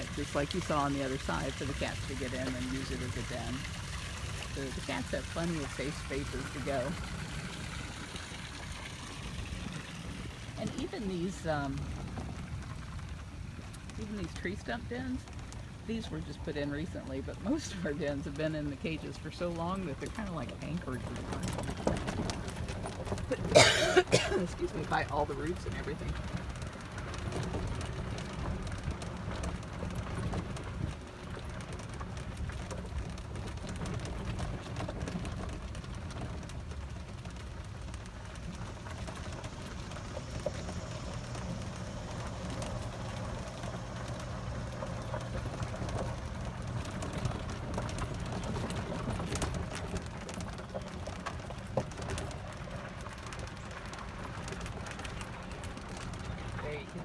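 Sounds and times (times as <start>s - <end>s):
cart rumbling on gravel: 0.0s - 57.0s
small rattles: 0.0s - 57.0s.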